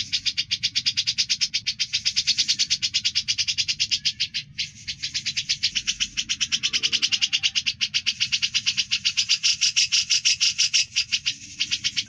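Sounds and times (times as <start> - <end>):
bird rattling song: 0.0 - 12.0.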